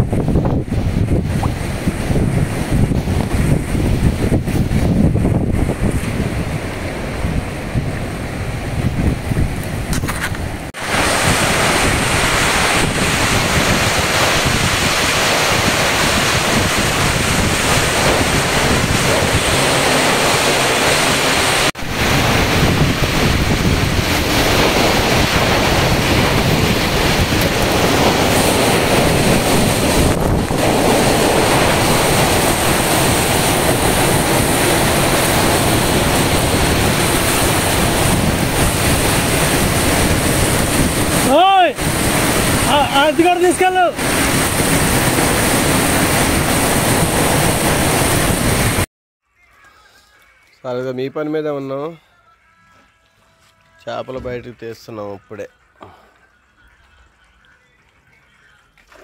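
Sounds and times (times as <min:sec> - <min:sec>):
wind and rain on microphone: 0:00.0 - 0:48.9.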